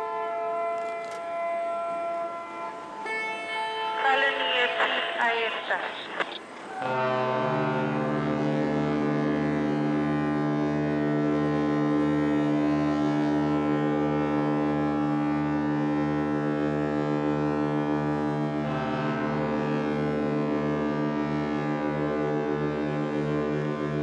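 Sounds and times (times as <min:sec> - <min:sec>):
ship horns sounding: 0:00.0 - 0:24.0.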